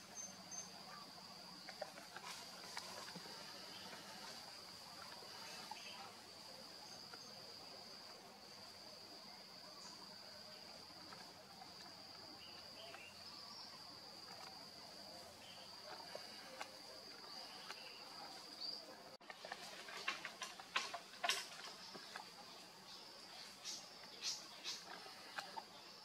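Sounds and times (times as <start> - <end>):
insect high-pitched drone: 0.0 - 26.0.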